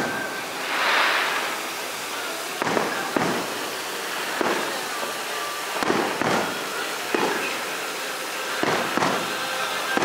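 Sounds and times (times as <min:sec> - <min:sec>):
firework bangs: 0:00.0 - 0:07.8, 0:08.4 - 0:10.0
firework hiss: 0:00.0 - 0:10.0.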